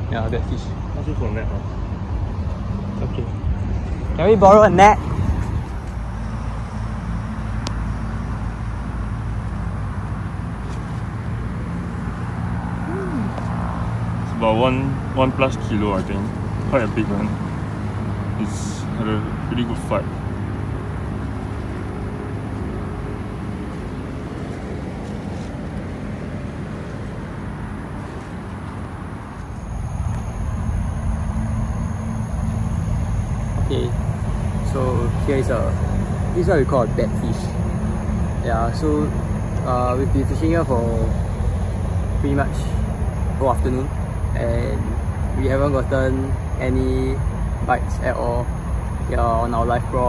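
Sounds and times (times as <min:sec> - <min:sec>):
low engine rumble: 0:00.0 - 0:50.0.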